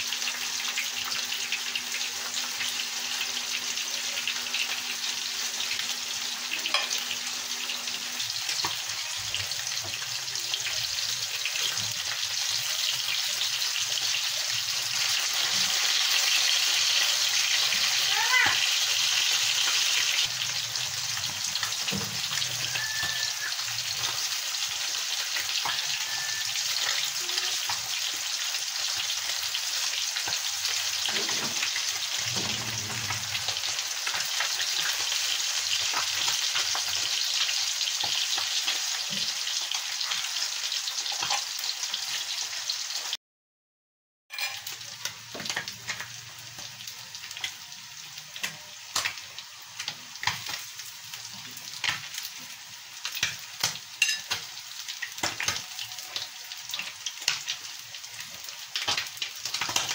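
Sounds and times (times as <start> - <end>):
fish frying in hot oil: 0.0 - 43.2, 44.3 - 59.9.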